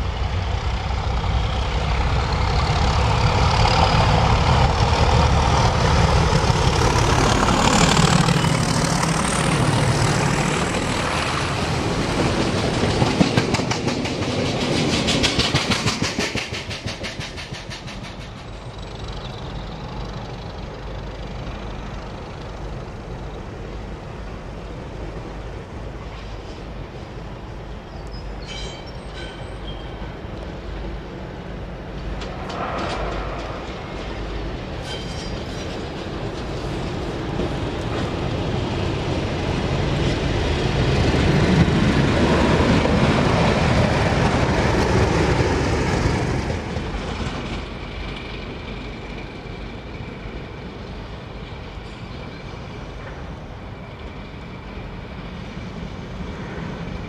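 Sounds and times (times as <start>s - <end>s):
diesel locomotive engine: 0.0s - 57.0s
train wheels clicking over rail joints: 0.4s - 24.3s, 28.0s - 57.0s.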